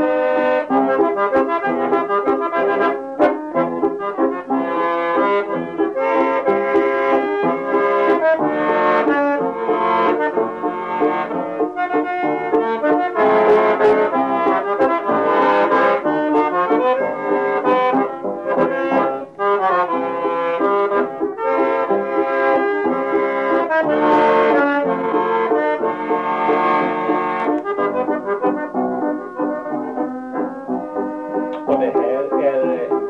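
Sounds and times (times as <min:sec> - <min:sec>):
accordion: 0:00.0 - 0:33.0
melodica: 0:00.0 - 0:33.0
piano: 0:00.0 - 0:33.0.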